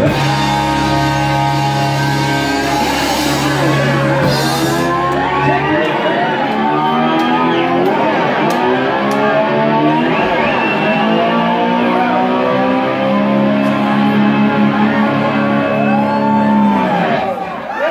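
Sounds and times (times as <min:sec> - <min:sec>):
sliding electric guitar: 0:00.0 - 0:17.5
drums: 0:00.0 - 0:17.9.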